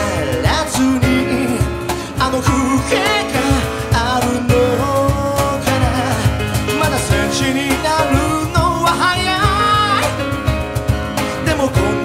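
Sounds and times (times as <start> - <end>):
acoustic guitar: 0.0 - 12.0
drums: 0.0 - 12.0
grand piano: 0.0 - 12.0
man singing: 0.0 - 12.0.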